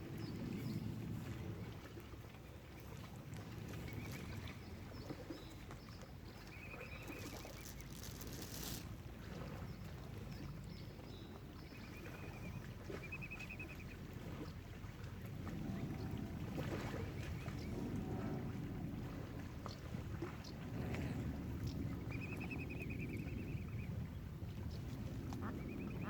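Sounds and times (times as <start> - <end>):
wind and water rumble: 0.0 - 26.0.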